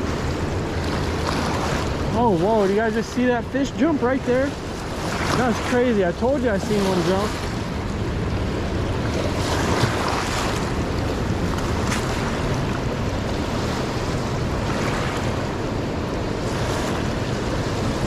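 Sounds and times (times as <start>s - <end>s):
river rushing in whitewater: 0.0s - 18.0s.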